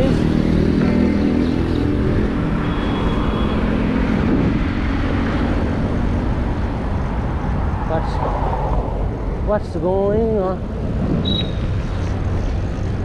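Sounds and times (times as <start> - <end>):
passing road traffic: 0.0 - 13.0
vehicle engine hum: 0.0 - 13.0
wind rushing: 0.0 - 13.0.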